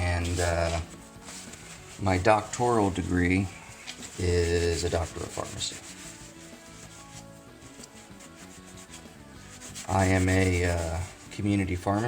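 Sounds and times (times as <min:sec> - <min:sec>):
rubbing and scrubbing metal: 0:00.0 - 0:12.0
soft background music: 0:00.0 - 0:12.0.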